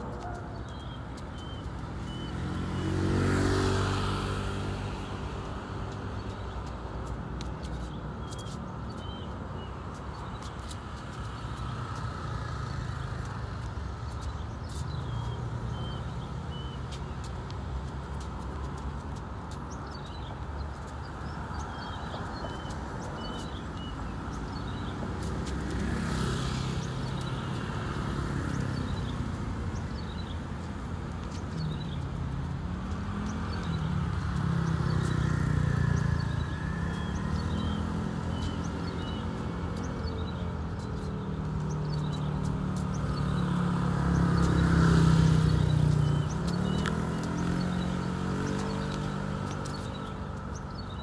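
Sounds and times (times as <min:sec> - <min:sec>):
vehicles passing: 0:00.0 - 0:51.0
small birds chirping: 0:00.2 - 0:04.0, 0:05.0 - 0:51.0.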